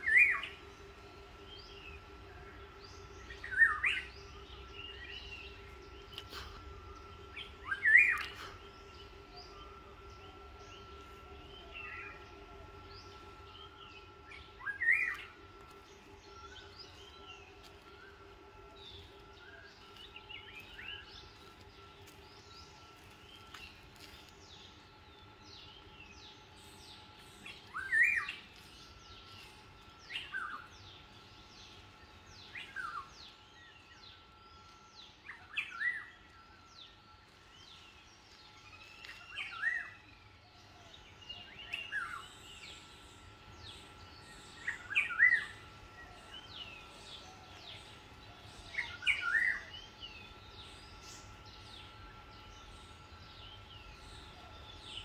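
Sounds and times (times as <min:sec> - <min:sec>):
other birds chirping: 0:00.0 - 0:55.0.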